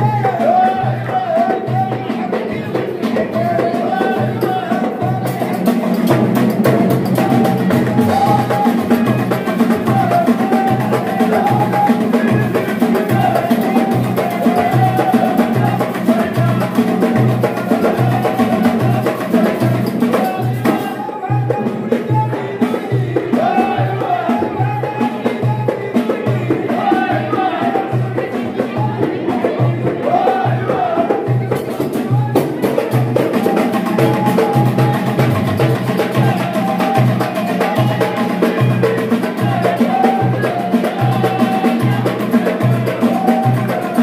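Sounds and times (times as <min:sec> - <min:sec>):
frame drums and tambourines: 0:00.0 - 0:44.0
men singing: 0:00.0 - 0:44.0.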